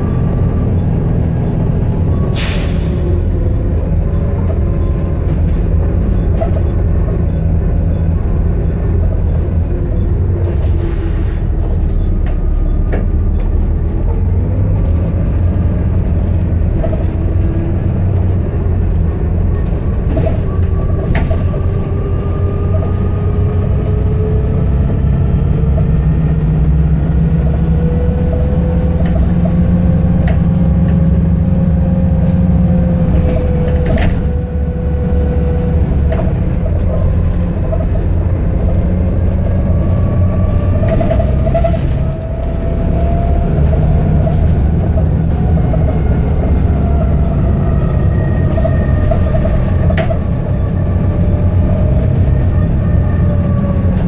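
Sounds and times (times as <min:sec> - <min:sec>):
bus engine droning and whining: 0:00.0 - 0:54.0.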